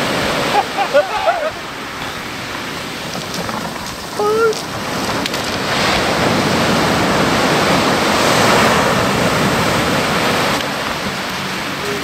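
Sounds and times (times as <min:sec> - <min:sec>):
surf breaking in shallow water: 0:00.0 - 0:12.0.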